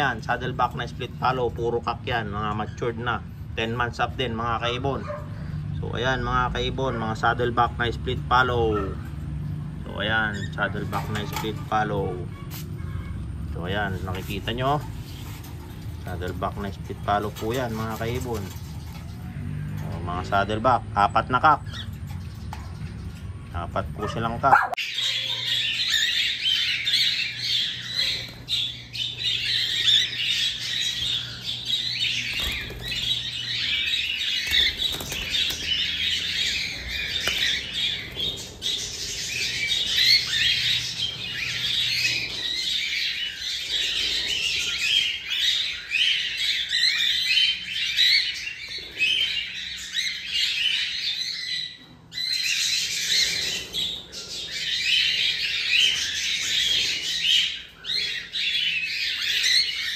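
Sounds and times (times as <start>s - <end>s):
cockatiels chattering and squawking: 9.8s - 12.8s, 13.5s - 59.9s.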